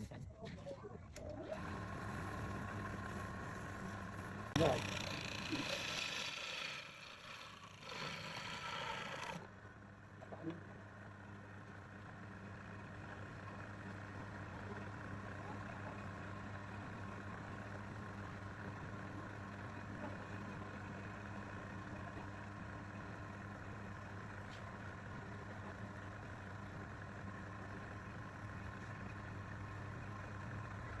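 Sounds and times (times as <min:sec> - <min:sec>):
lathe motor humming: 0:01.2 - 0:31.0.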